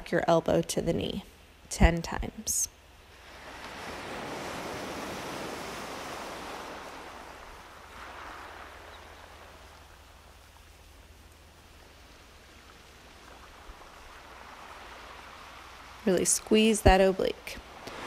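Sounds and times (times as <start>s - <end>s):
ocean waves washing on beach: 3.1s - 18.0s.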